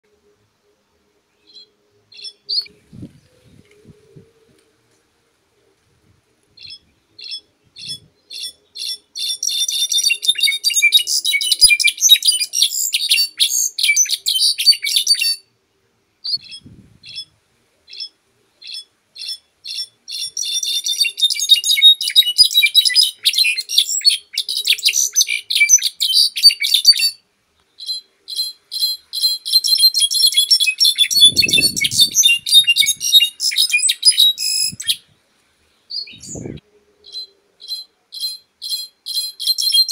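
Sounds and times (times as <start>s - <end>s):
bird singing: 0.1s - 4.0s, 6.6s - 15.5s, 16.2s - 35.1s, 35.7s - 39.9s.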